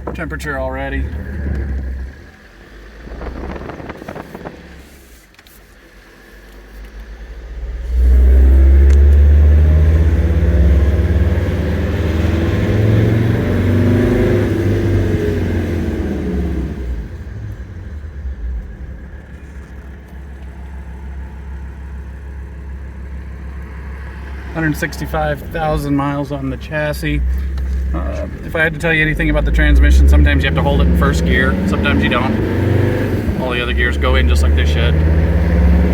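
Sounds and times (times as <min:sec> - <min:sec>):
diesel engine accelerating: 0:00.0 - 0:35.9.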